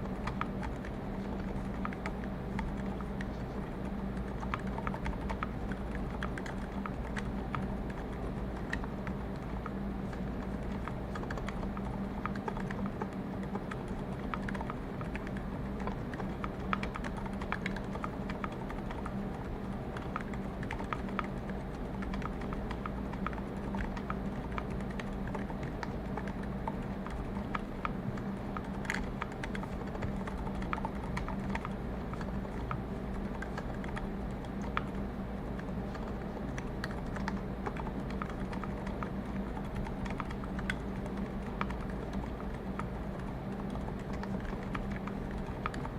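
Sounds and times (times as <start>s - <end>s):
low room hum: 0.0s - 45.9s
typing on mechanical keyboard: 0.0s - 45.9s.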